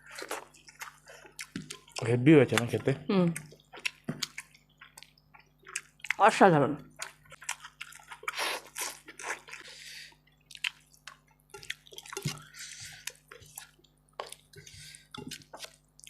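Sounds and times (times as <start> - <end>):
wet eating and chewing: 0.0 - 16.0.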